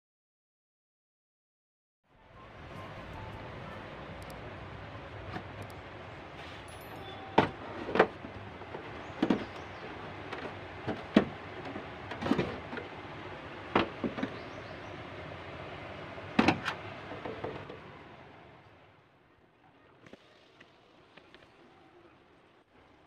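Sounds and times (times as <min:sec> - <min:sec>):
steady low hiss: 0:02.2 - 0:23.0.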